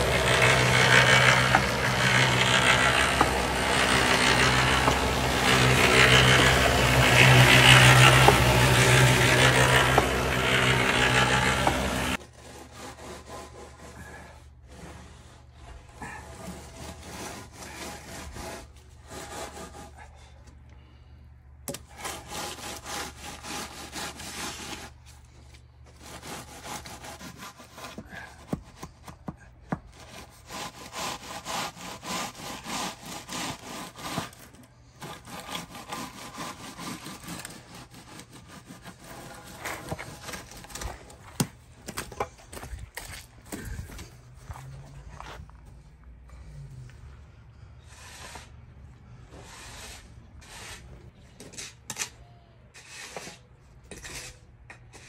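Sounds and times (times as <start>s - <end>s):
wooden board scraping wet concrete: 0.0s - 20.3s, 21.7s - 45.5s, 47.9s - 52.2s, 52.8s - 55.0s.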